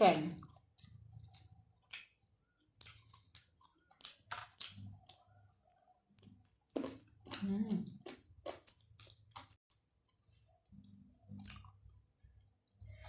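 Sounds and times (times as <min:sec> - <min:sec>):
chewing and mouth clicks: 0:00.4 - 0:10.3, 0:11.3 - 0:11.9.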